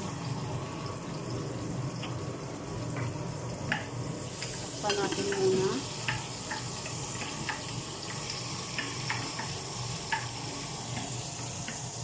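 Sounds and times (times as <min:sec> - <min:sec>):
chicken wings sizzling: 0:00.0 - 0:12.0.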